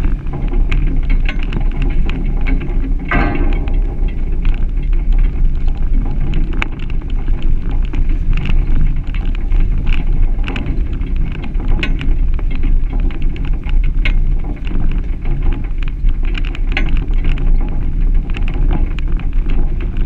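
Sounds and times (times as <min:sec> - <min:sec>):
stones popping under tyres: 0:00.0 - 0:20.0
wind buffeting and driving rumble: 0:00.0 - 0:20.0.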